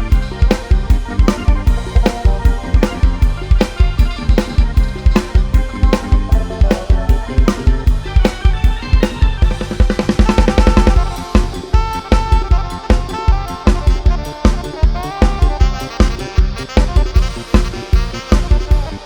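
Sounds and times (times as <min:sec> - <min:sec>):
drum kit beat: 0:00.0 - 0:19.0
sustained melodic line: 0:00.0 - 0:19.0.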